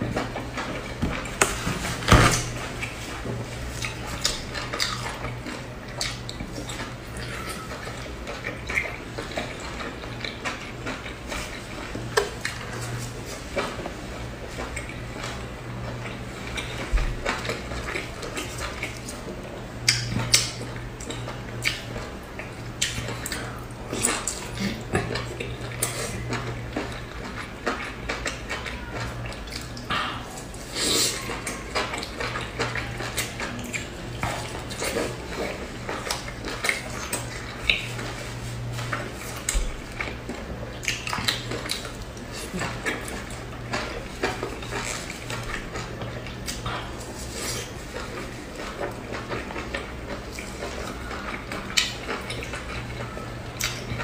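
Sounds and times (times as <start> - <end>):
chewing and mouth smacks: 2.8 - 13.9, 14.5 - 54.0.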